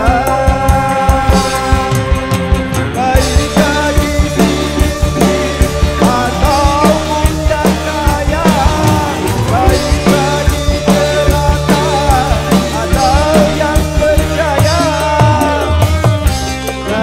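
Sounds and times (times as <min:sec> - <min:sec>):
drum kit beat: 0:00.0 - 0:17.0
keyboard: 0:00.0 - 0:17.0
man singing: 0:00.0 - 0:17.0.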